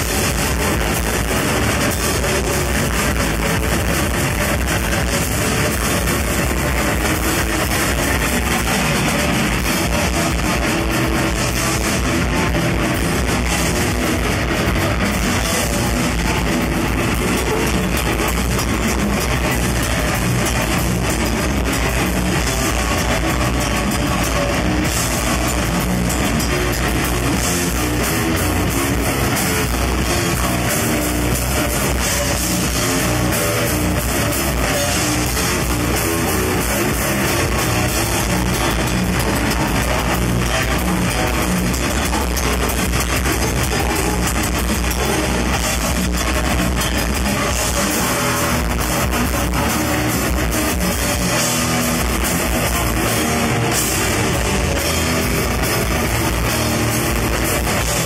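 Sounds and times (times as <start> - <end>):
bass guitar: 0.0 - 58.0
distorted electric guitars: 0.0 - 58.0
drum kit: 0.0 - 58.0.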